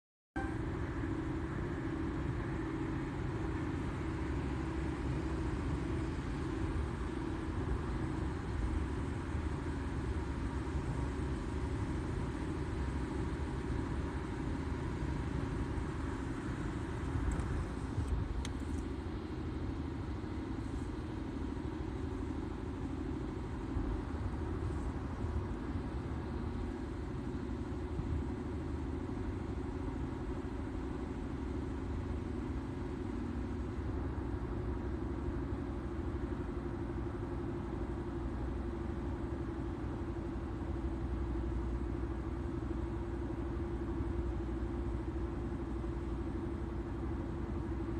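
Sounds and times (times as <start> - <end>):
car driving with low rumble: 0.4 - 47.9.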